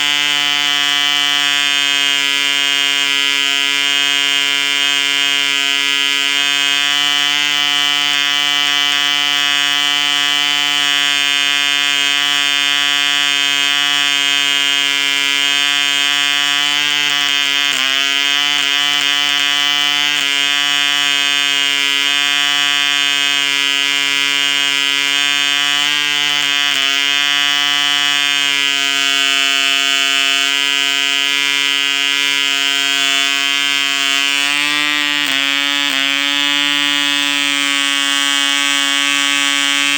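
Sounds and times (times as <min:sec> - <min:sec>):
model engine high-pitched buzz: 0:00.0 - 0:39.9.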